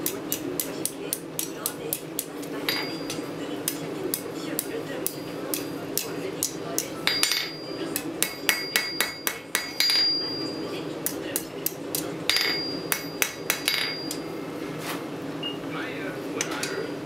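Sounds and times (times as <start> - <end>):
hammer striking metal on anvil: 0.0 - 14.3.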